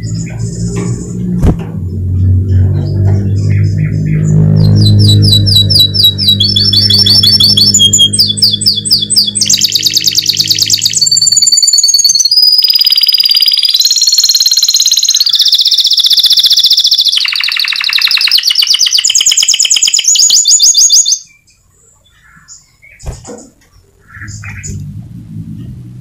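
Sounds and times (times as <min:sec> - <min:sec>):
faint bird chirps: 0:02.2 - 0:24.8
canary singing rapid trills: 0:02.3 - 0:23.1.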